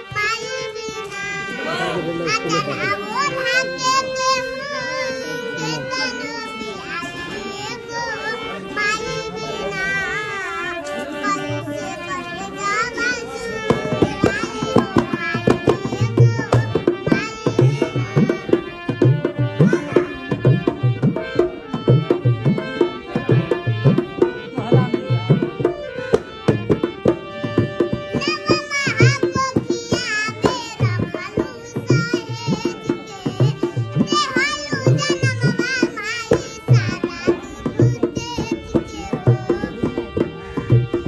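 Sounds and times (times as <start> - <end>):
tabla beat: 0.0 - 8.1, 11.4 - 41.0
girl singing: 0.0 - 21.2, 27.5 - 41.0.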